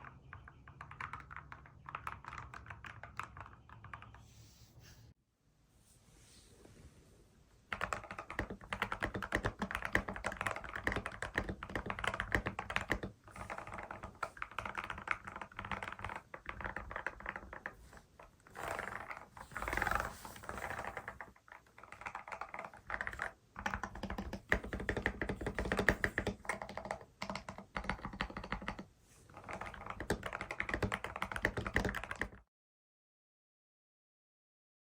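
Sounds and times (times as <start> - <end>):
mechanical keyboard typing: 0.0 - 4.2, 7.7 - 32.4.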